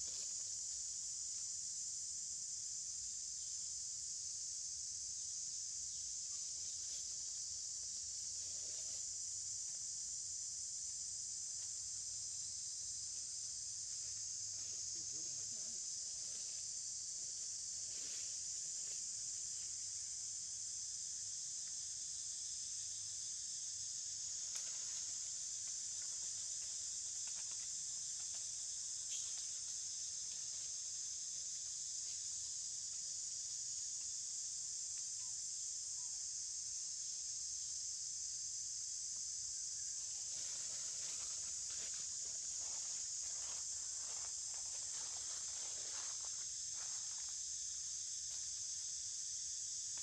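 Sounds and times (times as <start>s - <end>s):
insect chorus drone: 0.0s - 50.0s.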